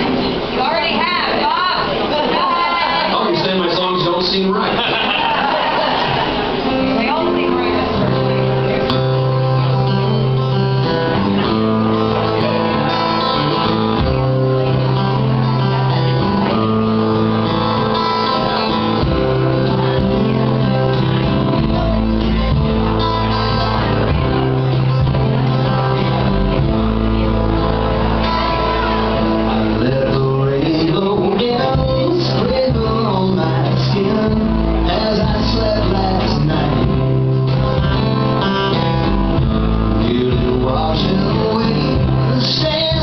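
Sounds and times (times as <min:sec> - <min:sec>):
guitars: 0:00.0 - 0:43.0
live band playing: 0:00.0 - 0:43.0
deep bass notes: 0:06.6 - 0:43.0.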